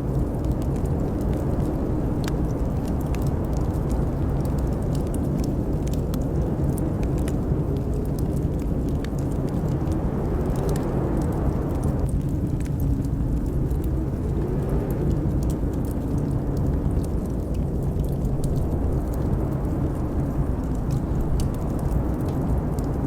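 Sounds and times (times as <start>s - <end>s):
blizzard wind howling: 0.0s - 23.0s
wood fire crackling: 0.0s - 23.0s.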